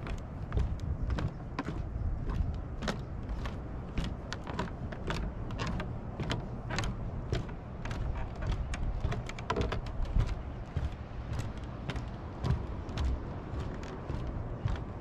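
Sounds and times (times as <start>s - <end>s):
footsteps on wooden boardwalk: 0.0s - 15.0s.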